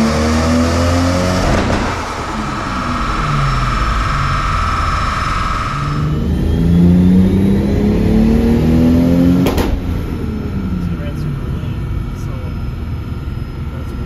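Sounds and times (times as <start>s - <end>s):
car engine revving on dyno: 0.0s - 14.0s
high whine: 0.0s - 14.0s.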